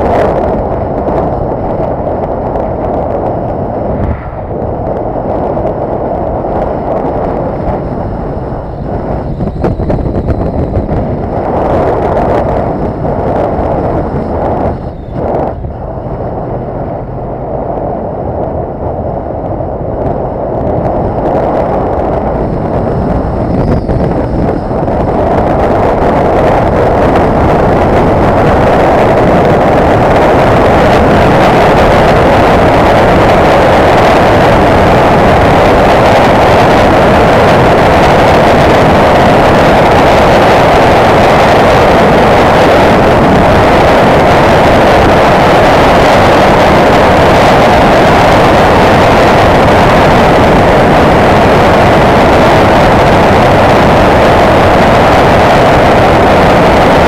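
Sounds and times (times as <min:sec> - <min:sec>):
motorcycle engine and wind rush: 0:00.0 - 0:57.0.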